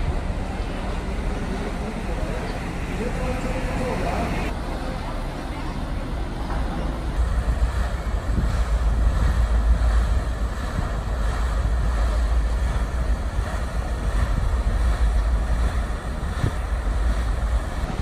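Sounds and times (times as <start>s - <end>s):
paddle wheel churning water: 0.0s - 18.0s
wind rumble on microphone: 0.0s - 18.0s.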